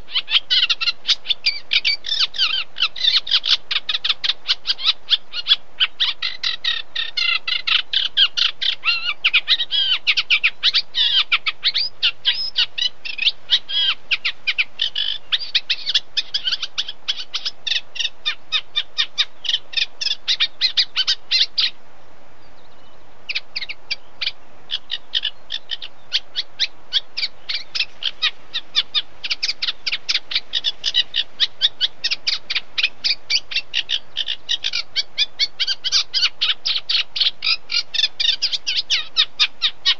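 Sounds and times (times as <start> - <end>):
reed warbler singing chattering notes: 0.0 - 39.9.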